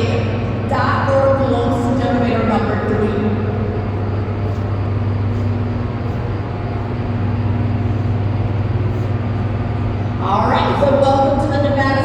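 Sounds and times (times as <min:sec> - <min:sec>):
generators humming: 0:00.0 - 0:12.0
machine noise: 0:00.0 - 0:12.0.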